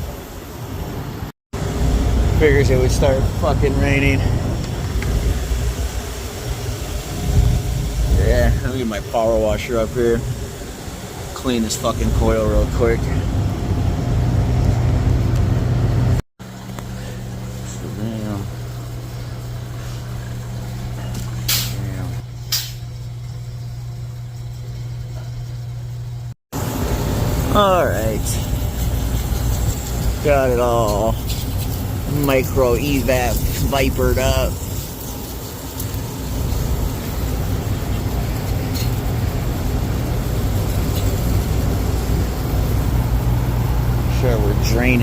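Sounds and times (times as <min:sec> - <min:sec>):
hvac unit humming: 0:00.0 - 0:45.0.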